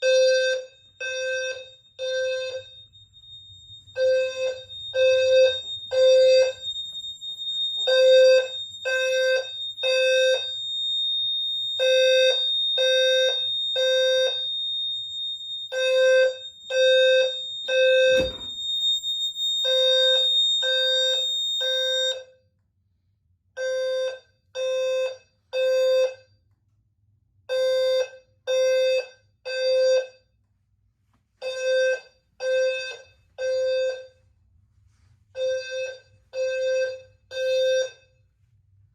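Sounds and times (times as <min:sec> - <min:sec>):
fire alarm horns buzzing: 0:00.0 - 0:22.4, 0:23.6 - 0:26.3, 0:27.5 - 0:30.3, 0:31.4 - 0:34.3, 0:35.4 - 0:38.2.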